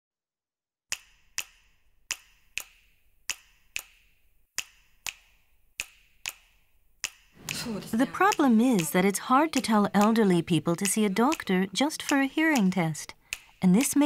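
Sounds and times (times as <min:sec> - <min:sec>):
sharp tick-tock ticks: 0:00.9 - 0:14.0.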